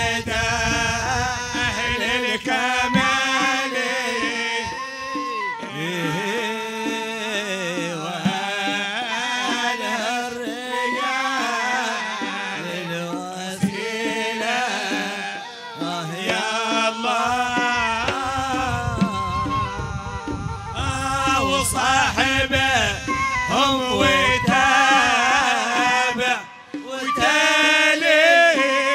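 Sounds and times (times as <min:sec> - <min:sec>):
low drumming: 0:00.0 - 0:15.2, 0:15.8 - 0:28.2
man singing ornamented melody: 0:00.0 - 0:28.9.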